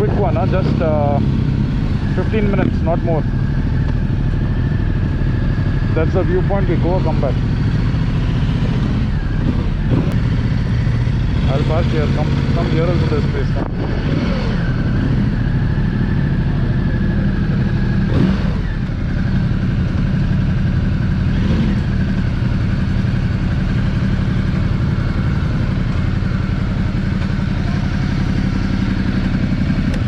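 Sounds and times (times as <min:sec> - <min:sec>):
motorcycle engine droning: 0:00.0 - 0:30.0.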